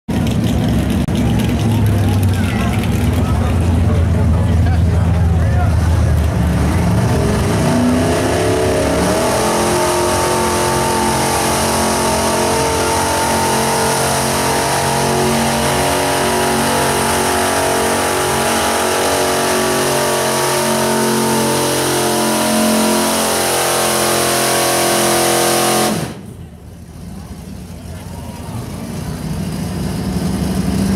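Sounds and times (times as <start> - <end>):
truck engine at high revs: 0.1 - 30.9.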